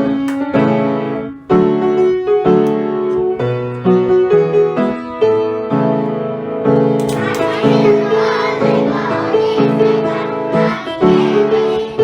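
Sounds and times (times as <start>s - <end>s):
piano playing chords and melody: 0.0s - 12.0s.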